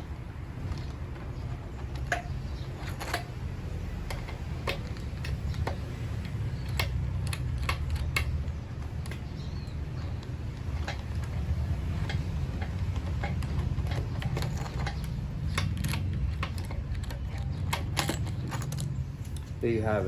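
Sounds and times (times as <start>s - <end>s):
screw clicking and squeaking: 0.1s - 19.6s.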